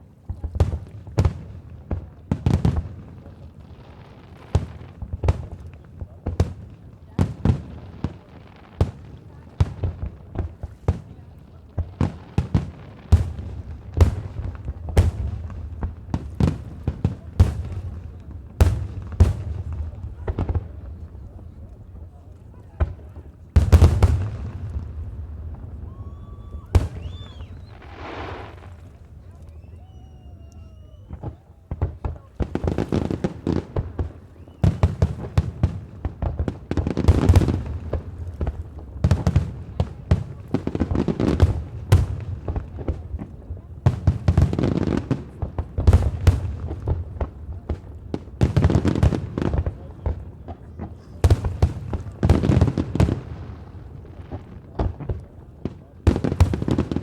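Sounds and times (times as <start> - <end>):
small firework pops: 0.0 - 57.0.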